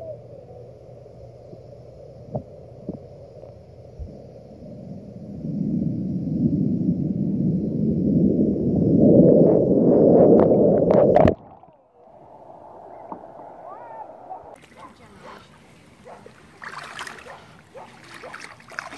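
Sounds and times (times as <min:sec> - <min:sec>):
muffled underwater rushing: 0:00.0 - 0:18.9.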